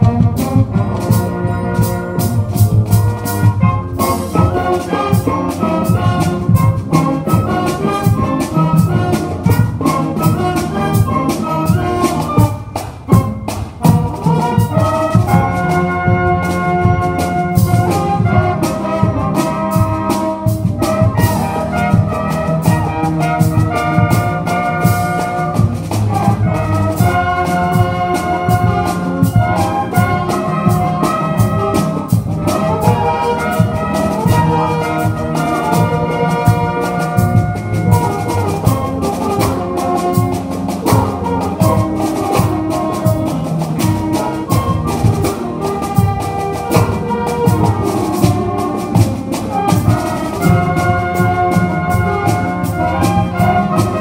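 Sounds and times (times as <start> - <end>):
pep band playing upbeat tune: 0.0 - 54.0.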